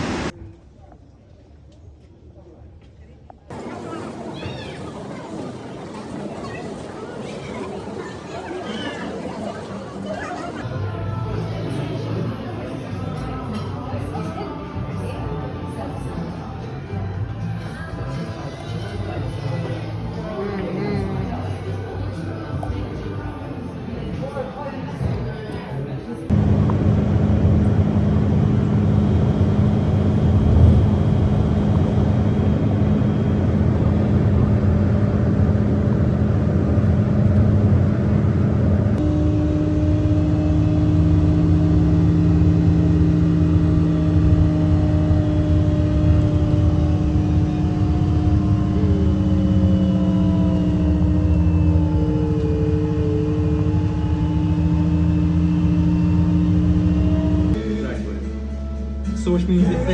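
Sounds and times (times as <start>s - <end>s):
vehicle engine drone: 3.5s - 21.9s, 26.3s - 59.0s.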